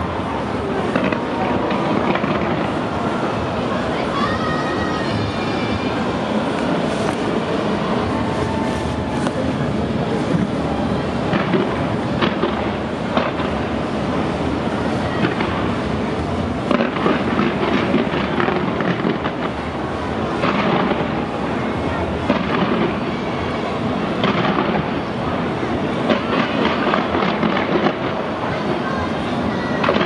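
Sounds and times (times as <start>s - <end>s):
firework bangs: 0.0s - 30.0s
fireworks crackling rumble: 0.0s - 30.0s.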